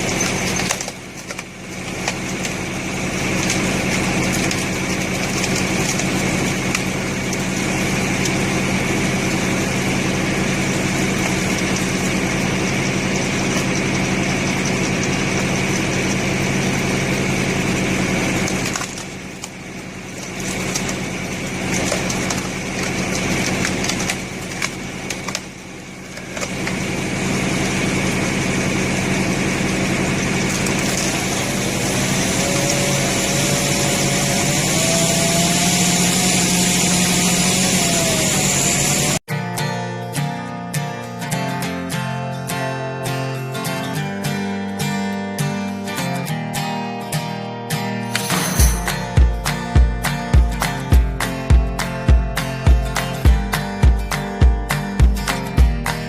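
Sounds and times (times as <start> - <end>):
tractor engine running: 0.0 - 39.3, 48.0 - 56.0.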